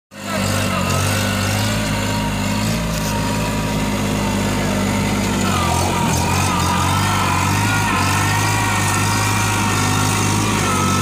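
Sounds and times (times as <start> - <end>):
tractor diesel engine running: 0.1 - 11.0.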